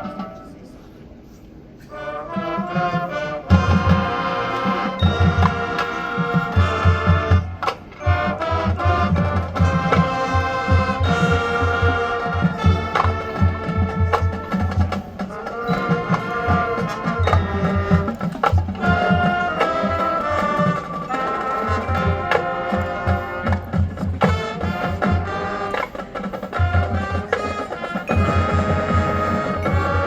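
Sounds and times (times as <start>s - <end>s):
marching band playing: 0.0s - 0.7s, 1.9s - 30.0s.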